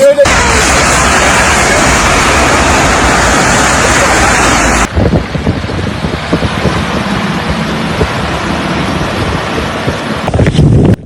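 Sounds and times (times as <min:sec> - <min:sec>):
low rumble: 0:00.2 - 0:11.0
wind blasting microphone: 0:00.2 - 0:11.0.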